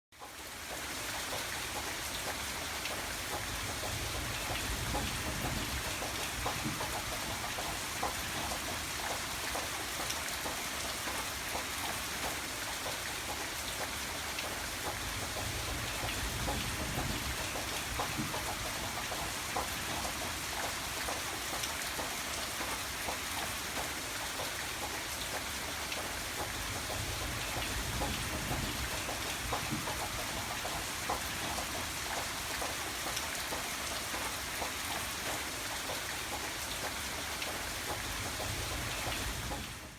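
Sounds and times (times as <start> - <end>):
raindrops ticking on surface: 0.2 - 39.9
hard rain hissing: 0.4 - 39.9.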